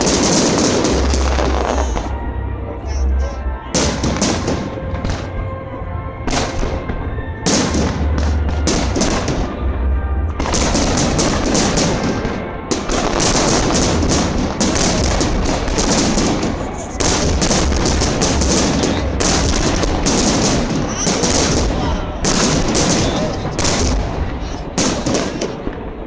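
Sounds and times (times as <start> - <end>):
fireworks bursts and crackling: 0.0 - 5.6, 6.2 - 26.0
deep fireworks booms: 0.0 - 26.0.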